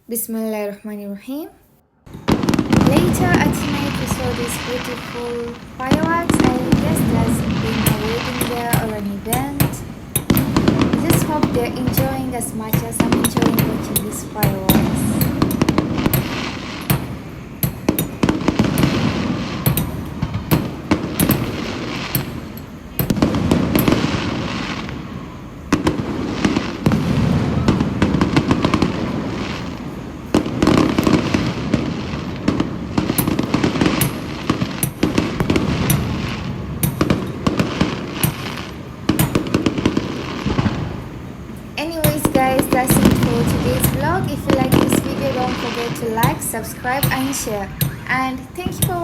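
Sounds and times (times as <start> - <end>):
fireworks crackling bangs: 2.1 - 49.0.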